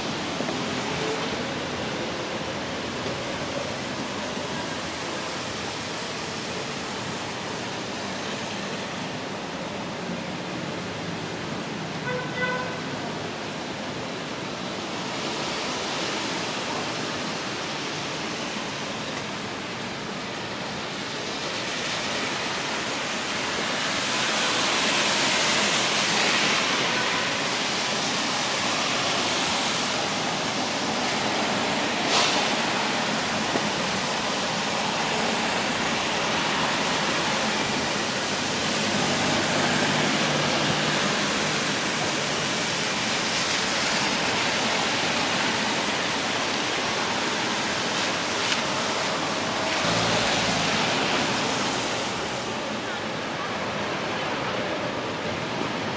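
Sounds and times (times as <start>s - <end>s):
rain falling on a street: 0.0s - 55.9s.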